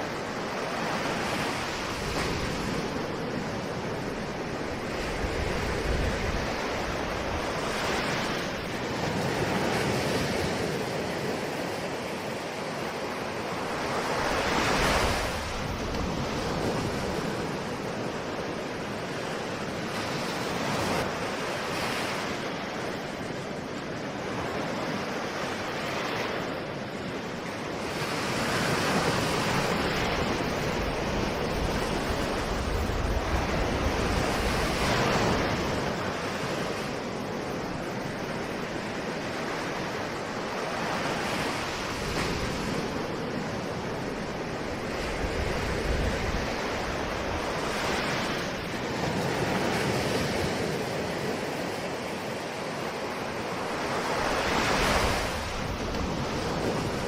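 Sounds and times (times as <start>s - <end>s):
ocean waves breaking on shore: 0.0s - 57.0s
wind: 0.0s - 57.0s.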